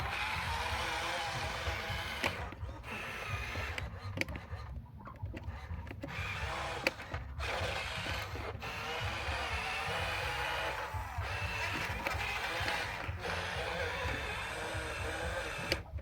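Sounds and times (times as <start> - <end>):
sharp clicks and ratcheting: 0.0 - 16.0
small electric motors whirring: 0.0 - 16.0.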